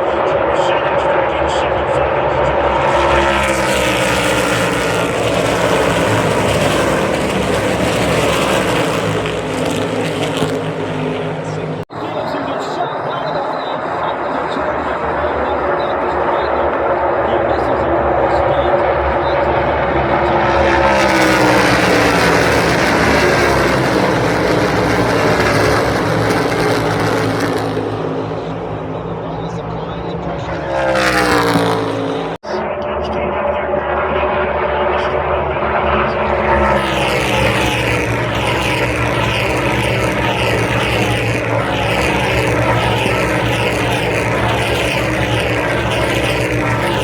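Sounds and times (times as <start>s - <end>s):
race car engines droning: 0.0s - 47.0s.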